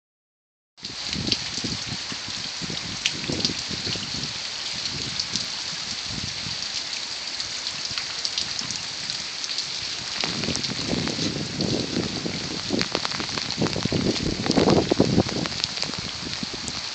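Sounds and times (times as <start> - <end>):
heavy rain falling: 0.8 - 16.9.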